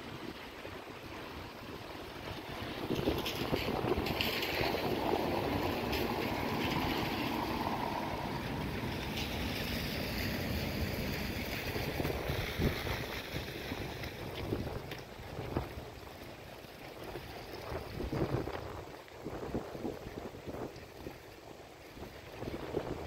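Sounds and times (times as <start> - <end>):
traffic on a wet road: 0.0 - 21.5
wind rumbling on microphone: 0.0 - 23.0.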